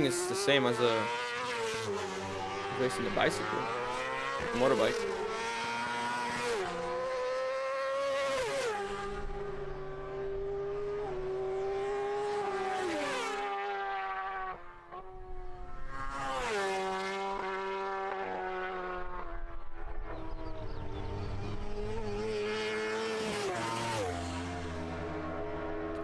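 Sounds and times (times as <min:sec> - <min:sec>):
racing motorcycle engine revving: 0:00.0 - 0:26.0.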